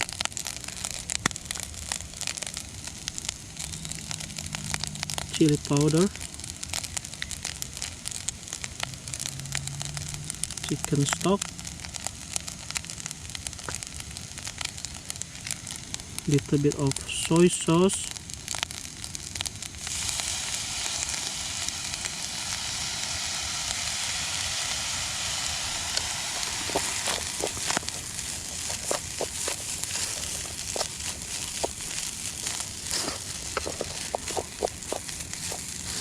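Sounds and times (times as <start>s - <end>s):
fried rice sizzling in pan: 0.0s - 36.0s.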